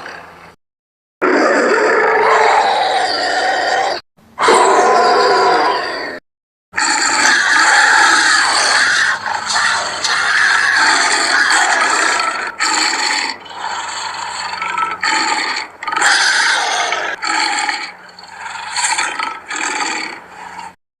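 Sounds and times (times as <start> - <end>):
big cat growling and snarling: 1.2 - 6.2, 6.8 - 20.8.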